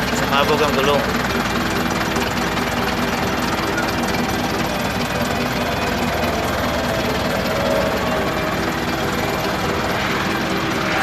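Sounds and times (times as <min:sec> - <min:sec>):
minibus engine idling: 0:00.0 - 0:11.0.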